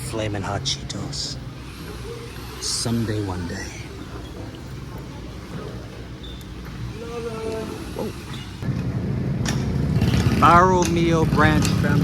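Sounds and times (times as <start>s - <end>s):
road traffic engine rumble: 0.0s - 12.0s.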